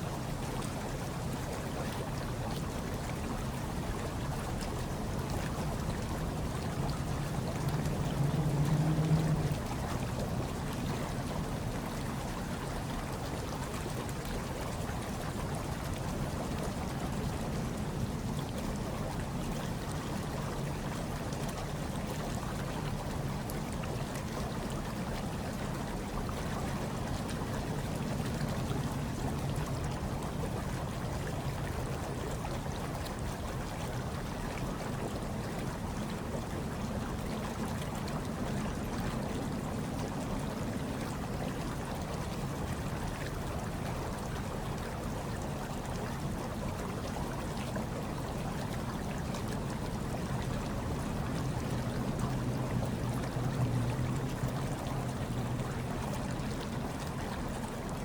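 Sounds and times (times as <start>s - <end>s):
hot tub water churning and bubbling: 0.0s - 58.0s.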